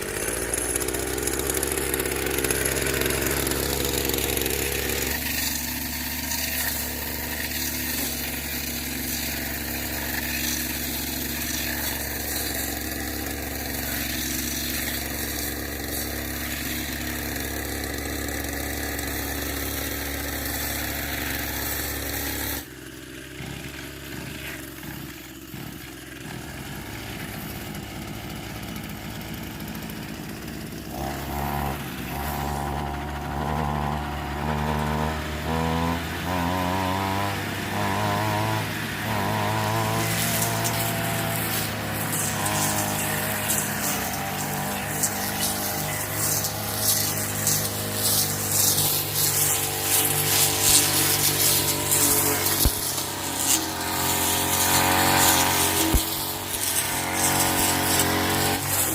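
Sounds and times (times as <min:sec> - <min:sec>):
engine running: 0:00.0 - 0:58.9.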